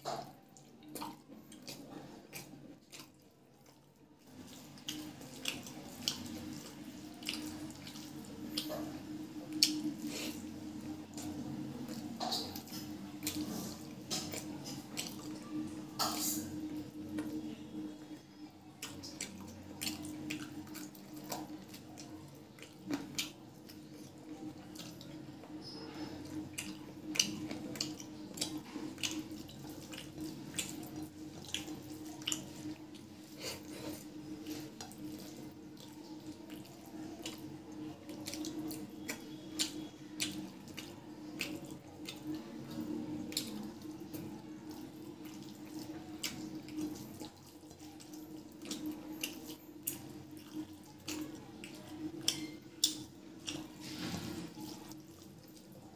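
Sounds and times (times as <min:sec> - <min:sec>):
wet chewing and lip-smacking: 0:00.0 - 0:17.5, 0:18.6 - 0:55.9.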